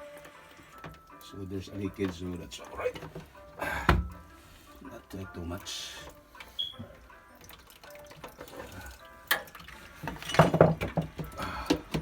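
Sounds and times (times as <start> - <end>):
water dripping and splashing: 1.9 - 12.0.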